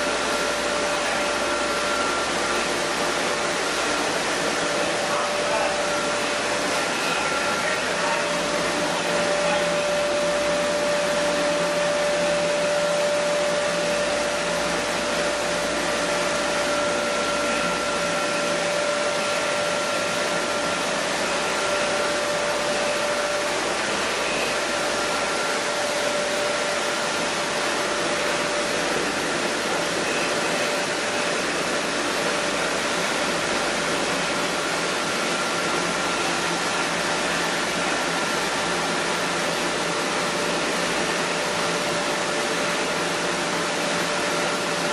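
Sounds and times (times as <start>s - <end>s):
milling machinery whirring: 0.0s - 44.9s.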